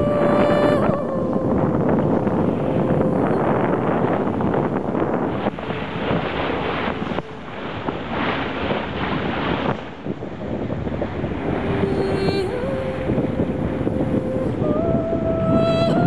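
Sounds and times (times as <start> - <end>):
waves washing: 0.0 - 16.0
wind buffeting microphone: 0.0 - 16.0.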